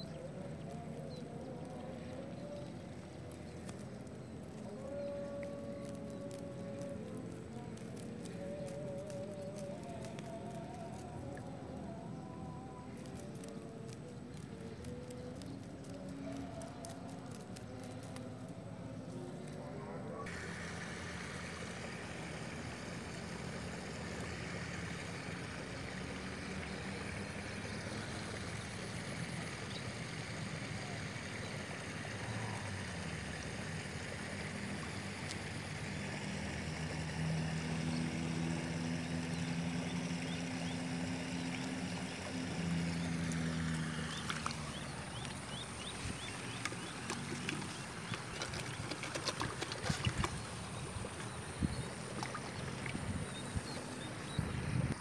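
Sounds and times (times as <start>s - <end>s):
distant small engine humming: 0.0s - 55.0s
outdoor background noise: 0.0s - 55.0s.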